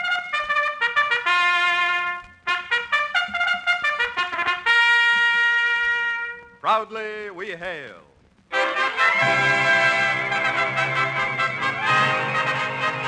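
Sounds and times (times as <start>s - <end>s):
solo trumpet fanfare: 0.0s - 6.6s, 8.5s - 13.0s.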